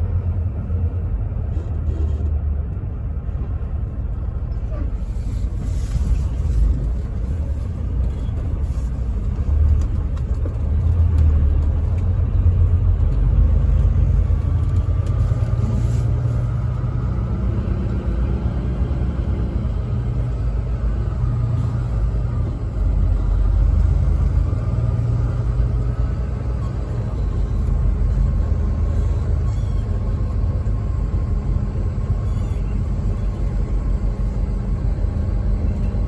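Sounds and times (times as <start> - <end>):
road noise: 0.0 - 36.0
truck engine drone: 0.0 - 36.0.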